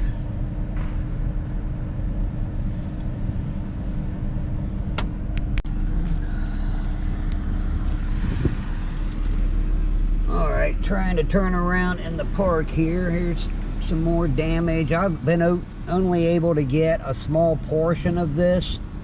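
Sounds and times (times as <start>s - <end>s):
car interior engine rumble: 0.0s - 19.0s.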